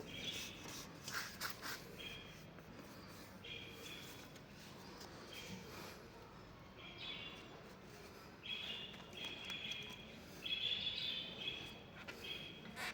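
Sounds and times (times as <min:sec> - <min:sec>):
faint background noise: 0:00.0 - 0:12.9.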